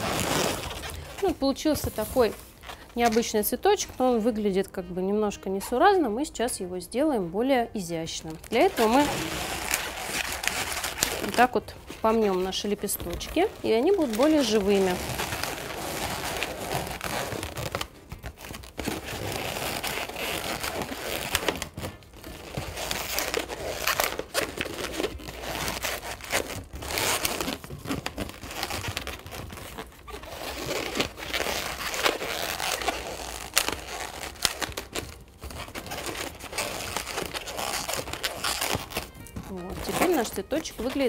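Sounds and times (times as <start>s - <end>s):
balloons rubbing and squeaking: 0.0s - 4.3s, 8.3s - 41.0s.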